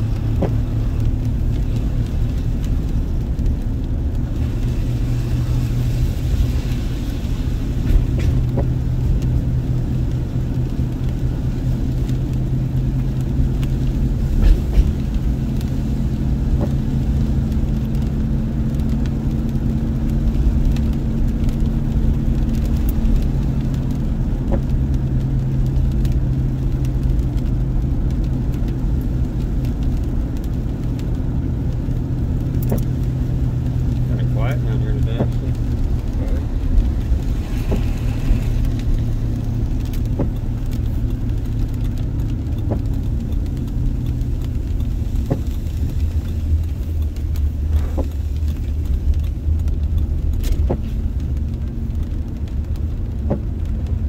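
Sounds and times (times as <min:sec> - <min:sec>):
car engine and road drone: 0:00.0 - 0:54.0.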